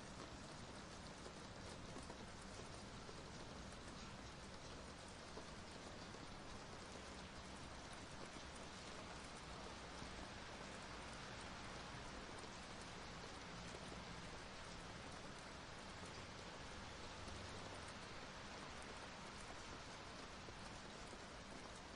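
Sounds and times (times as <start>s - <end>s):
faint rain hiss: 0.0s - 21.9s.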